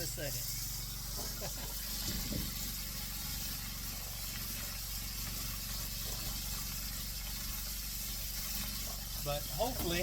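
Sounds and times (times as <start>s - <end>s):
meat frying in hot grease: 0.0s - 10.0s.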